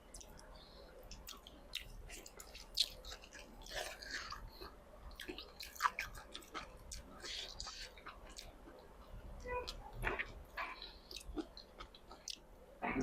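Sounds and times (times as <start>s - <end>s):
person chewing with wet clicks: 0.0s - 12.5s.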